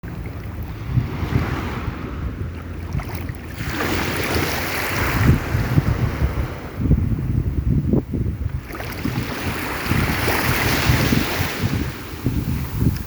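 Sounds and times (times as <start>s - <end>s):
sea waves washing in: 0.0s - 13.0s
wind buffeting microphone: 0.0s - 13.0s.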